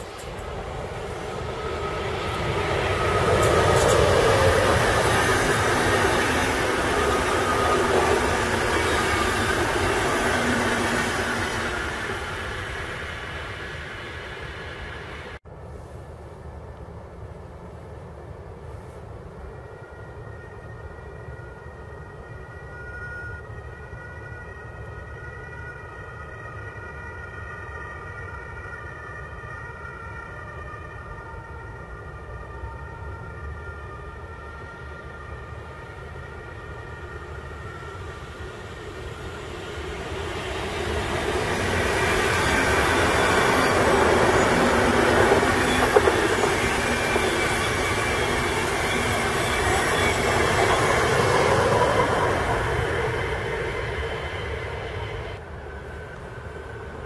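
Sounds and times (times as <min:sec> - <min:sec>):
low train rumble: 0:00.0 - 0:57.0
train whine: 0:00.0 - 0:57.0.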